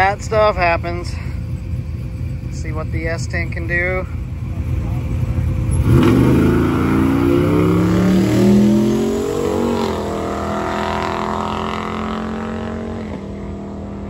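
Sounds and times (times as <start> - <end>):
drag cars accelerating: 2.6 - 14.0.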